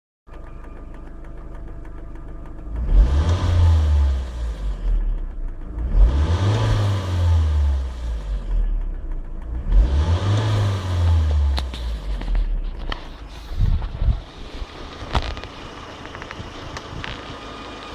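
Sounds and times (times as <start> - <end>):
car engine revving: 0.3 - 17.9.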